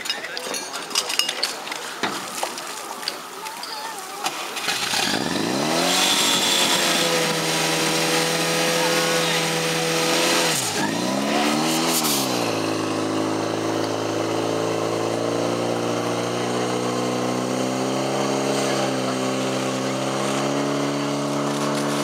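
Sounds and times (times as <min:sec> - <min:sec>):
fire pump engine running: 0:00.0 - 0:22.0.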